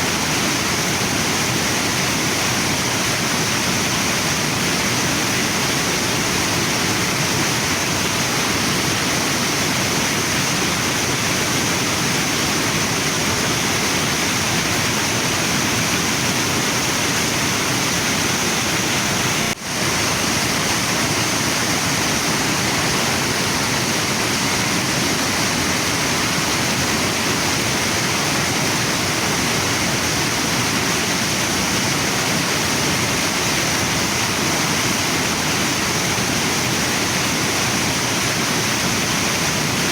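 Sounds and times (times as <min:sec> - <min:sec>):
waterfall and river rushing: 0:00.0 - 0:39.9.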